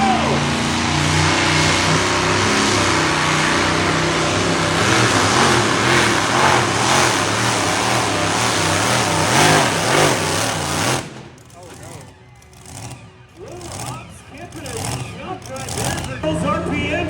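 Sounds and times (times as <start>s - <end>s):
vehicle engine at full effort: 0.0s - 17.0s.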